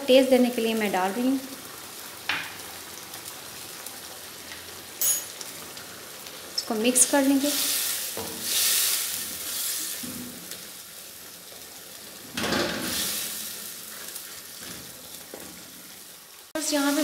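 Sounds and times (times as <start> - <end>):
meat and onions sizzling in oil: 0.0 - 17.0.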